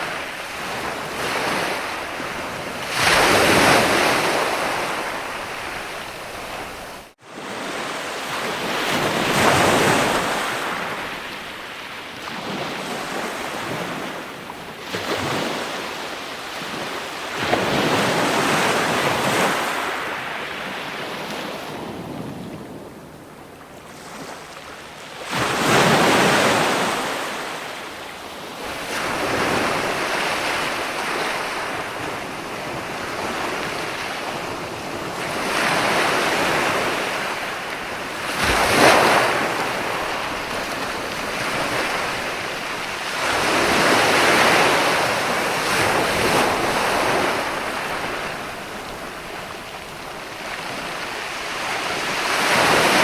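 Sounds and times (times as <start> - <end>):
wind noise on microphone: 0.0 - 7.6, 8.3 - 27.4, 28.5 - 53.0
ocean waves breaking: 0.0 - 53.0.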